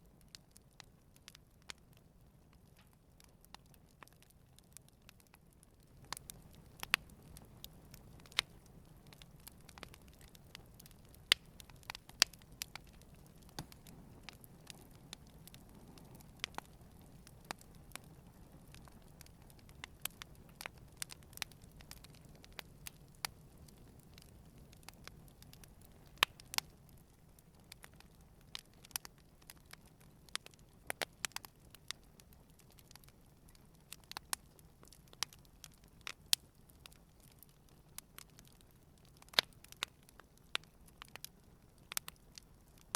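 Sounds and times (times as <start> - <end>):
campfire crackling and popping: 0.0 - 42.9
low rumble of flames: 0.0 - 42.9.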